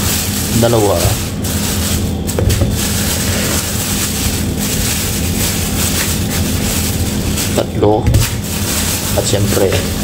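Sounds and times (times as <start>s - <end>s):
plastic bag crinkling: 0.0s - 10.0s
steady low hum: 0.0s - 10.0s.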